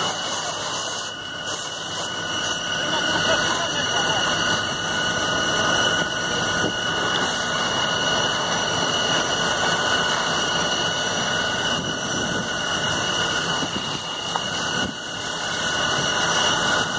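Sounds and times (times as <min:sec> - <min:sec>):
fire engine pump roaring: 0:00.0 - 0:16.9
high whine: 0:00.0 - 0:16.9.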